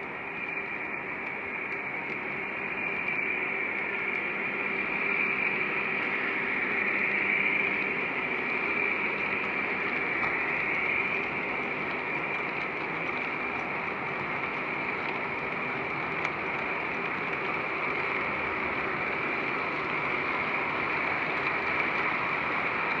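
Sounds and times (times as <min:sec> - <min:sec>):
model train rolling on track: 0:00.0 - 0:23.0.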